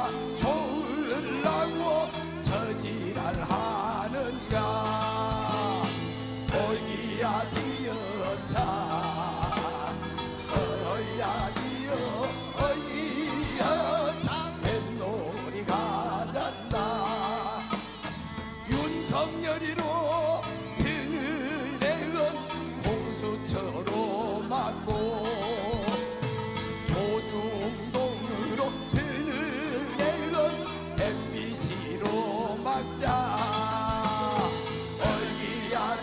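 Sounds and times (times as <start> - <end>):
drum strikes: 0.0 - 29.3, 29.9 - 36.0
band holding notes: 0.0 - 36.0
folk singing with wavering vibrato: 0.0 - 36.0.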